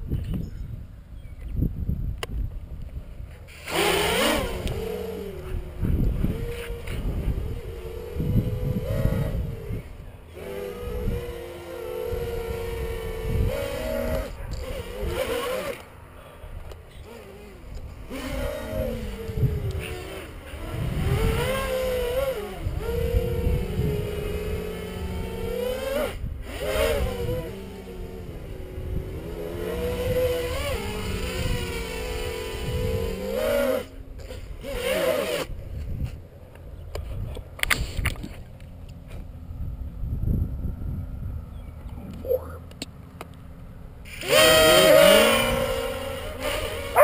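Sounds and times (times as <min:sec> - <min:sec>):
quadcopter motors whining: 0:02.9 - 0:47.0
drone propellers buzzing: 0:03.3 - 0:47.0.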